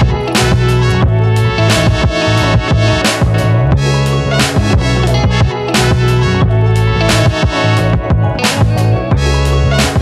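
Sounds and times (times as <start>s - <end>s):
music with heavy bass and beat: 0.0s - 10.0s.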